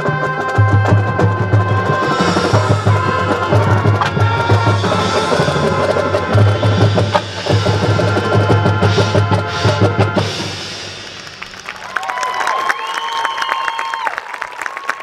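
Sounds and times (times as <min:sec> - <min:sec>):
marching band playing: 0:00.0 - 0:12.1.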